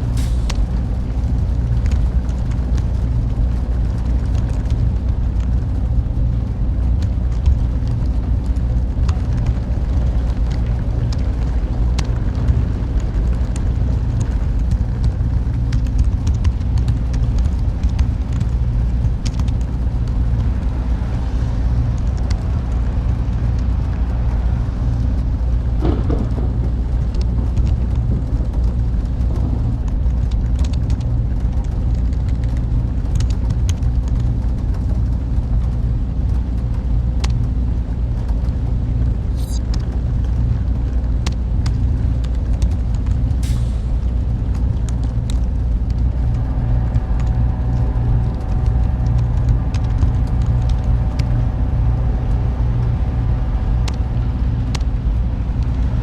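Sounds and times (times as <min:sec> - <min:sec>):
computer fans running: 0:00.0 - 0:56.0.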